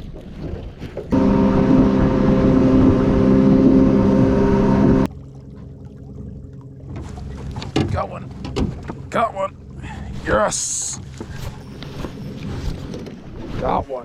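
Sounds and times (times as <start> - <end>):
boat motor humming: 1.1 - 13.4.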